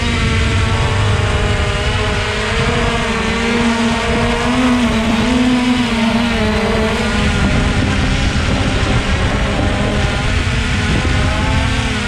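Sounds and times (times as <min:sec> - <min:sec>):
low rumbling noise: 0:00.0 - 0:12.0
model aircraft motor humming: 0:00.0 - 0:12.0.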